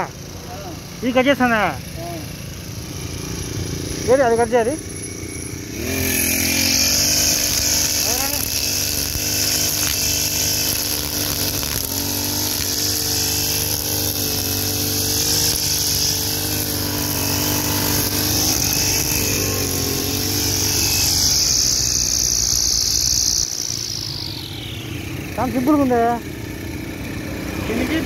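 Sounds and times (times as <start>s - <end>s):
brush cutter running: 0.0s - 28.0s.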